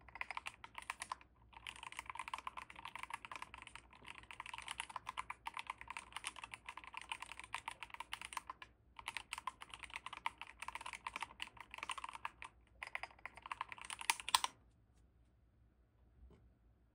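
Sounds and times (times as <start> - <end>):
fast keyboard typing: 0.0 - 14.6.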